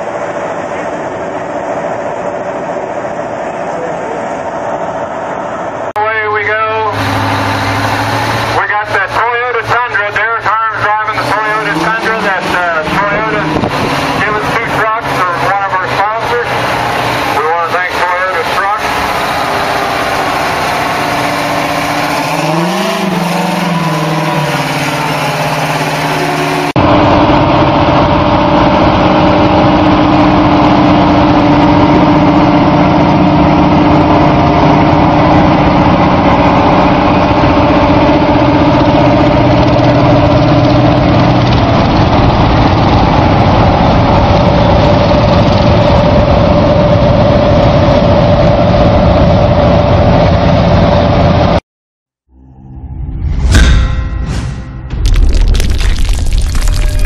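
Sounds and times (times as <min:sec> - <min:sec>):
tractor diesel engine running: 0:00.0 - 0:51.6.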